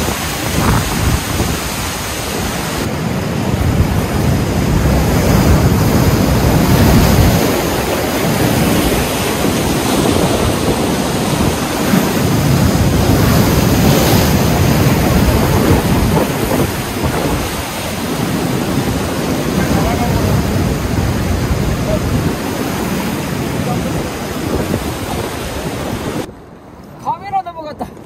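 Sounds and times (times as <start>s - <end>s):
wind buffeting microphone: 0.0s - 26.7s
ocean surf breaking on rocks: 0.0s - 28.0s.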